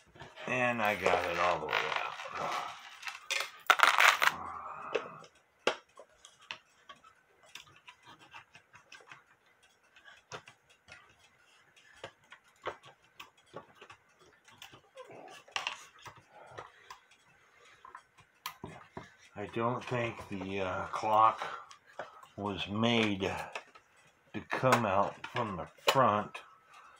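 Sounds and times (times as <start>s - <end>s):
wooden clock clicks and taps: 5.2s - 26.9s.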